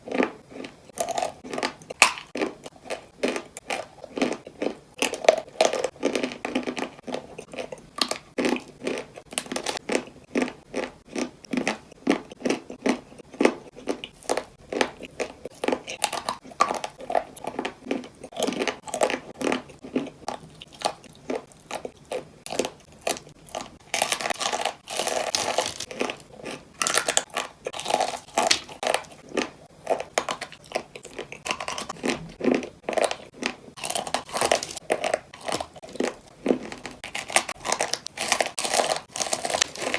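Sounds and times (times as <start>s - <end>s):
chewing crunchy chalk: 0.0s - 39.9s.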